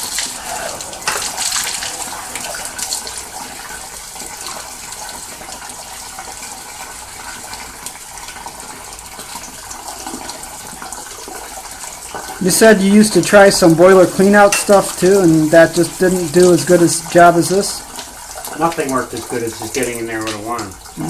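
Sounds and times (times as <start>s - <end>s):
water running and splashing: 0.0s - 21.0s.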